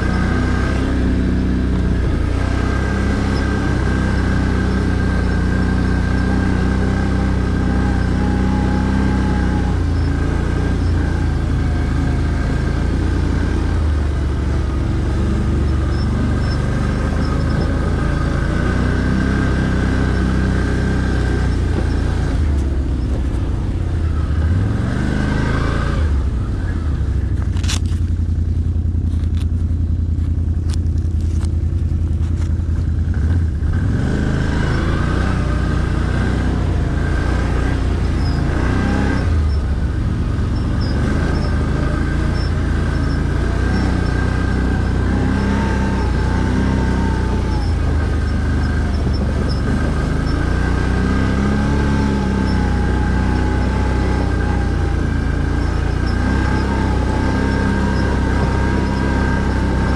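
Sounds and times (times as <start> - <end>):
quad engine running: 0.0 - 59.9.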